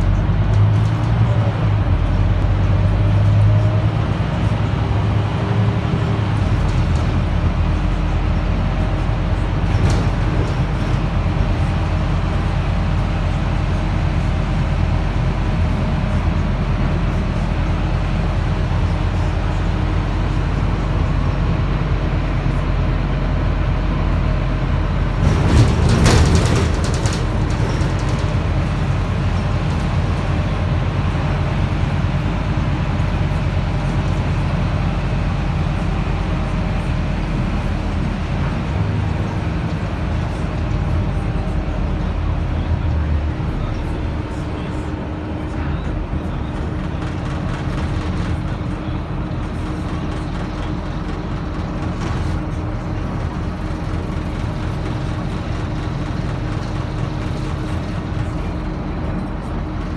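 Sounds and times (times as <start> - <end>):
bus engine humming: 0.0 - 59.9
road noise: 0.0 - 59.9.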